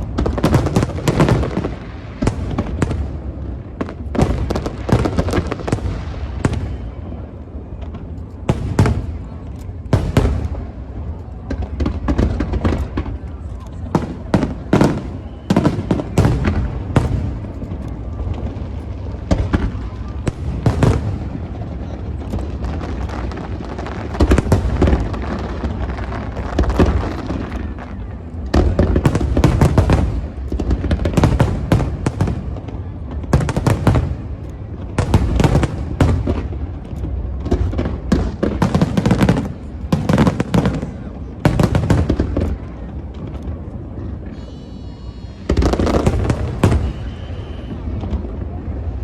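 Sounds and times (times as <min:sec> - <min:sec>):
fireworks booms and crackling: 0:00.0 - 0:49.0.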